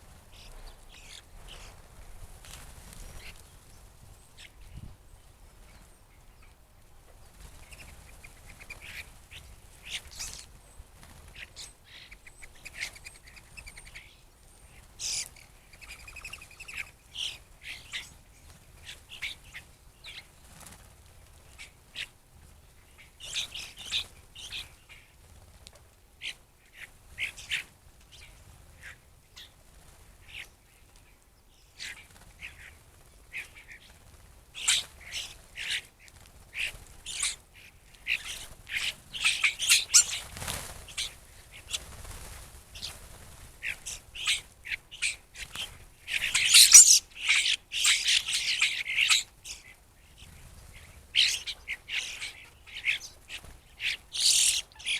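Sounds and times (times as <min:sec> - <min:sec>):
blackbirds calling: 0:00.0 - 0:01.9, 0:03.0 - 0:20.5, 0:21.4 - 0:25.2, 0:26.2 - 0:29.6, 0:30.2 - 0:54.9.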